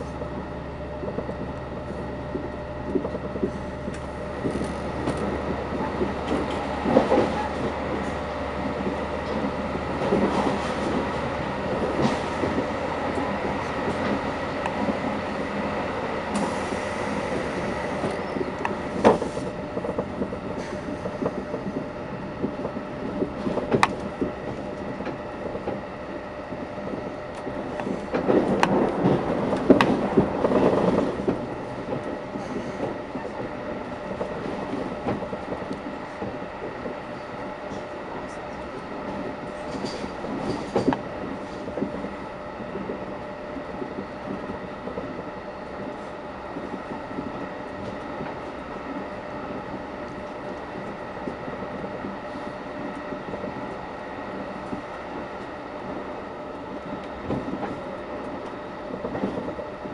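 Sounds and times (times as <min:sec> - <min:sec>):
train wheels rumbling on rails: 0:00.0 - 0:59.9
sharp clacks of train wheels: 0:01.0 - 0:59.9.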